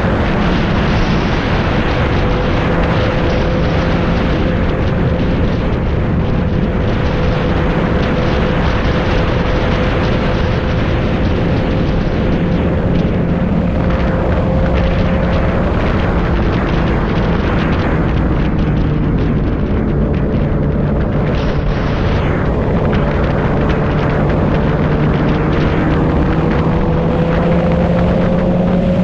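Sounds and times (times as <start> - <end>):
motorcycle engine running: 0.0 - 29.0
wind rush on microphone: 0.0 - 29.0.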